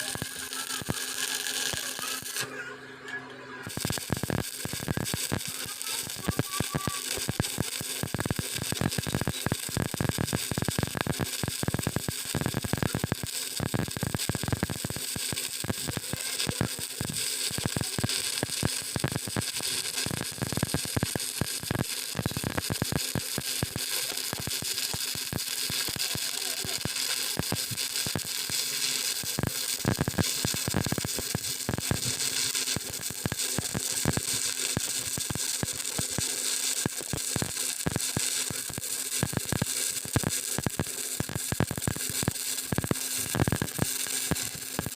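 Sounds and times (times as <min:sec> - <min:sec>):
welding arc crackling and sizzling: 0:00.0 - 0:02.6, 0:03.6 - 0:44.9.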